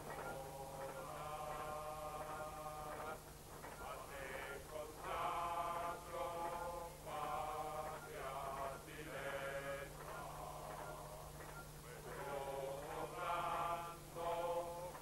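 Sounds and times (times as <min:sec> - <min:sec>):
man singing chant-like tune: 0:00.2 - 0:03.2, 0:03.8 - 0:15.0.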